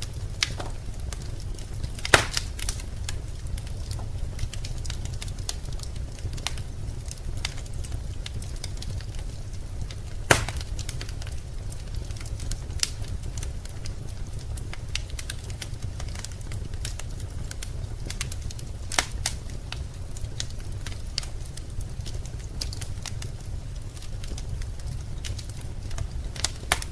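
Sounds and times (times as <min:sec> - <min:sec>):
fire low rumble: 0:00.0 - 0:26.9
loud fire pops: 0:00.0 - 0:26.9
wood fire crackling: 0:00.0 - 0:26.9.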